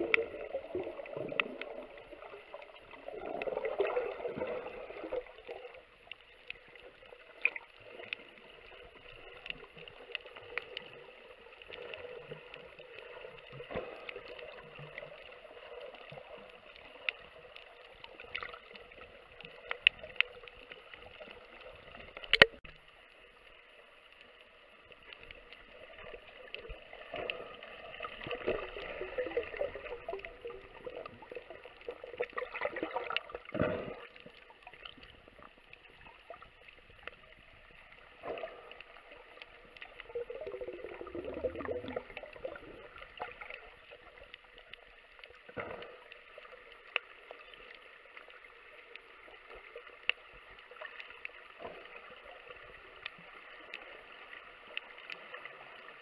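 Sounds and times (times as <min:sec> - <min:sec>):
underwater gurgling and bubbling: 0:00.0 - 0:22.8, 0:24.7 - 0:56.0.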